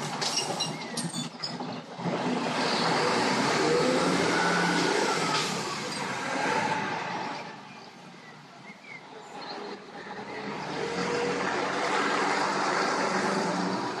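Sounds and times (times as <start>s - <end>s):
garbage truck diesel engine: 0.0s - 14.0s.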